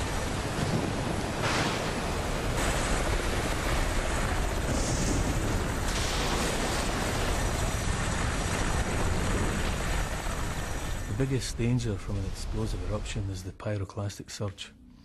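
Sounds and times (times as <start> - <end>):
hissing surges: 0.0 - 13.2
volcanic eruption rumbling: 0.0 - 13.4.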